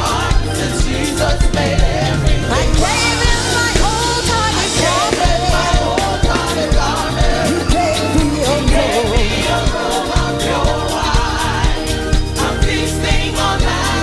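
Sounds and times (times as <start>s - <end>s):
gospel band playing: 0.0s - 14.0s.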